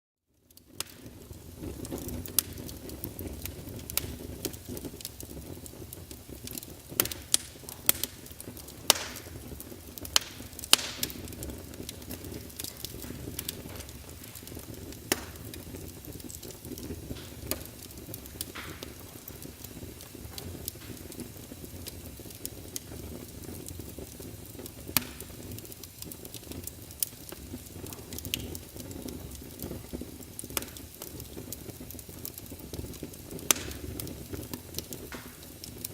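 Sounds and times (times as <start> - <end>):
fire crackling: 0.3 - 35.9
wood fire burning: 0.3 - 35.9
logs popping: 0.5 - 35.9.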